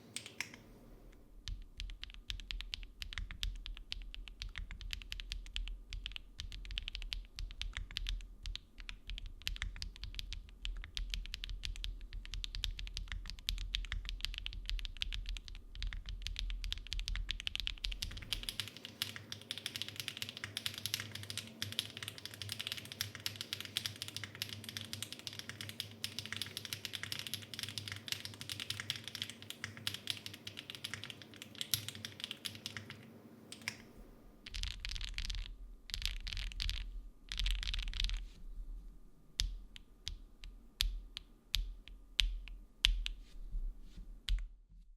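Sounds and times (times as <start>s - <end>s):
fast typing on mechanical keyboard: 1.5s - 33.8s, 34.5s - 38.2s.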